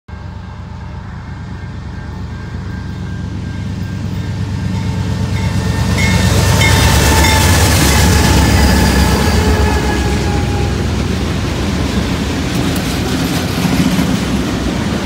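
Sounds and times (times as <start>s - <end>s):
diesel locomotive engines rumbling: 0.1s - 15.0s.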